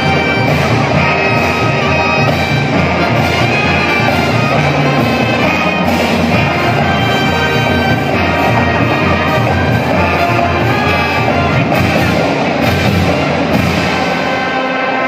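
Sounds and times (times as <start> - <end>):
bass line: 0.0 - 13.8
steady drum beat: 0.0 - 14.8
sustained brass tones: 0.0 - 15.0.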